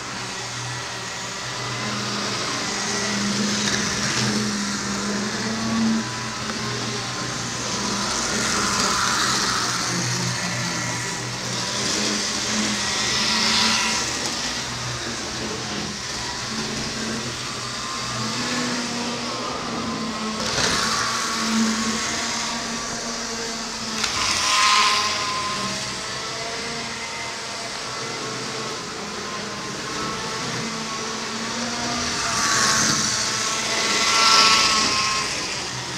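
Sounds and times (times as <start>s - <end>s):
model train hum and whine: 0.0s - 35.9s.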